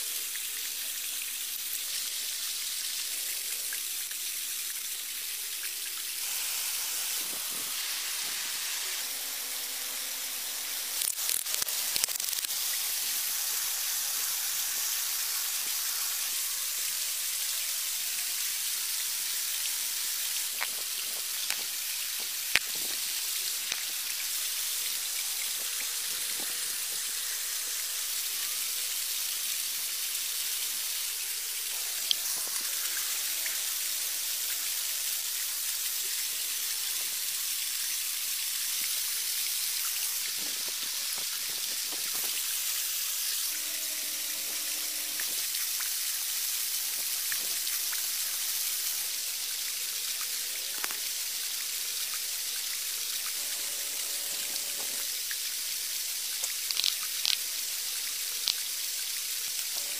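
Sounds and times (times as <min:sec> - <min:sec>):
falling rain hiss: 0:00.0 - 0:59.9.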